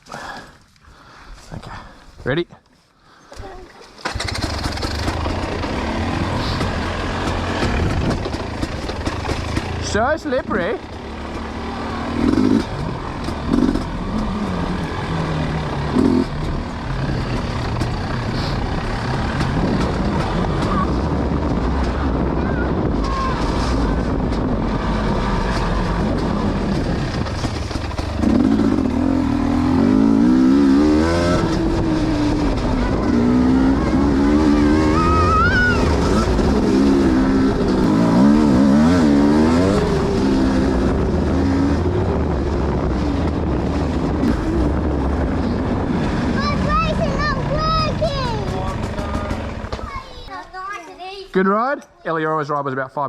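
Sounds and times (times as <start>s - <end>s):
dirt bike engine revving: 4.0s - 49.9s.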